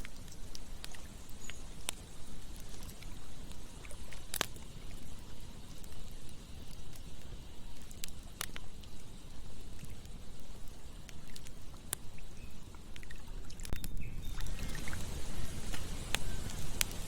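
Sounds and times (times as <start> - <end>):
flames rushing: 0.0 - 13.7, 14.4 - 17.0
burning wood popping and snapping: 0.0 - 17.0.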